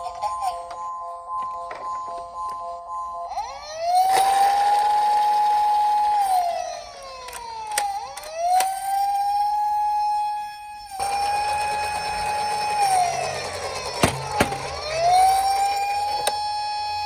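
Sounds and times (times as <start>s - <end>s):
toy police siren wailing: 0.0s - 17.0s.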